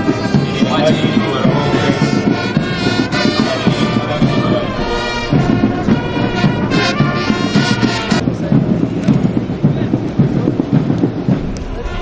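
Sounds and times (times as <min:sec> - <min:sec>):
brass band playing a march: 0:00.0 - 0:11.1, 0:11.7 - 0:12.0.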